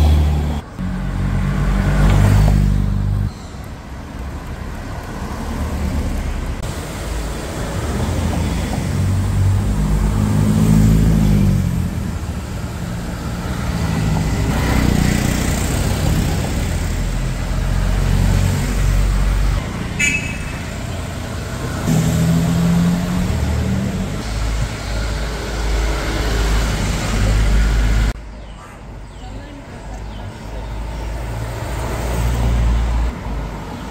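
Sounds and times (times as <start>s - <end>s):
cars driving past: 0.0s - 28.2s, 29.9s - 33.9s.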